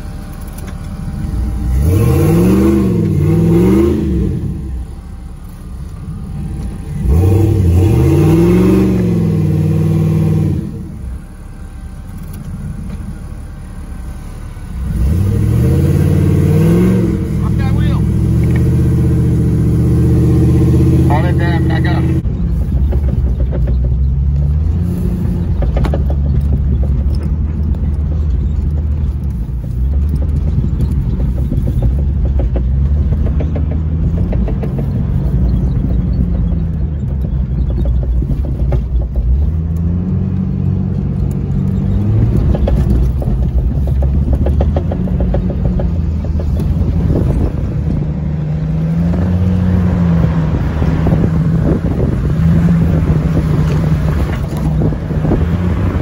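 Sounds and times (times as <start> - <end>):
car engine revving: 0.0 - 56.0
knocks and rattles from bumpy ride: 0.0 - 56.0.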